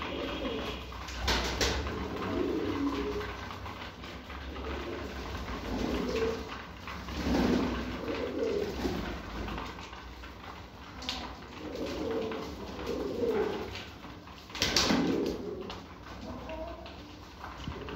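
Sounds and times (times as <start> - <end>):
pigeons cooing: 0.0 - 17.9.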